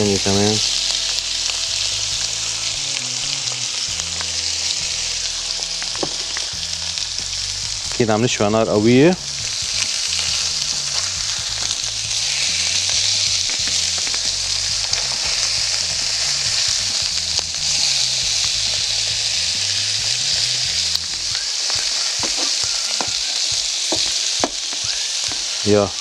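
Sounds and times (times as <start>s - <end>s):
fish sizzling in a pan: 0.0s - 26.0s.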